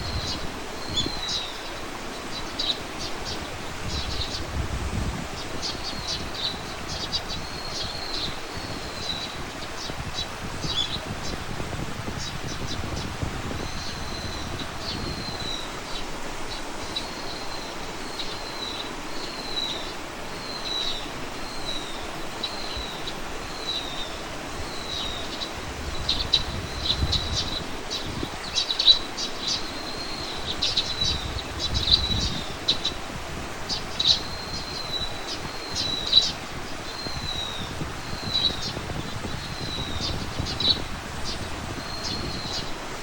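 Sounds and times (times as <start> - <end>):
birds chirping sharply: 0.0 - 43.0.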